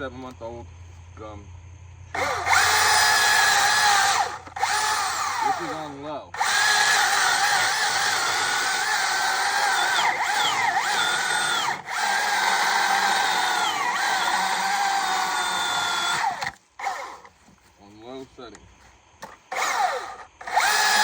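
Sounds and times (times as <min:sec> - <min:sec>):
battery chainsaw cutting wood: 0:02.1 - 0:17.4, 0:19.3 - 0:21.0.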